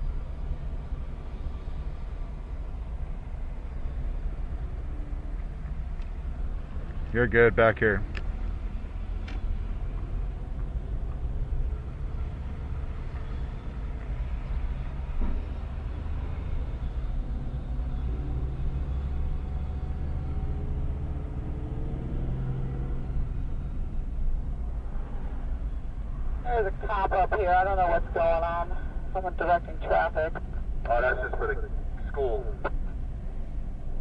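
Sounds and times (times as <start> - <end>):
car engine: 0.0 - 34.0
road rumble: 0.0 - 34.0.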